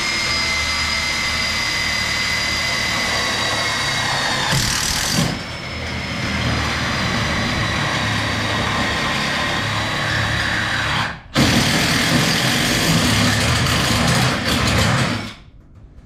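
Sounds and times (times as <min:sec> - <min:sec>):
cordless drill boring: 0:00.0 - 0:15.2.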